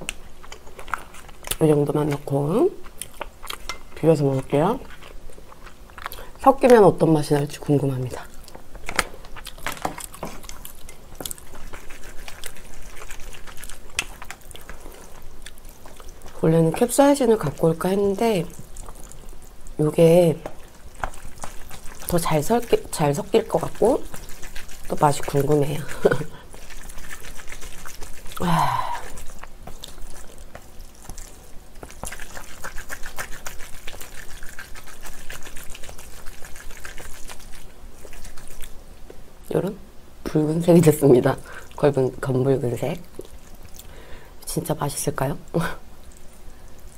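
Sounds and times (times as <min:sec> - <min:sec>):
chopsticks stirring sticky noodles: 0:00.0 - 0:38.8.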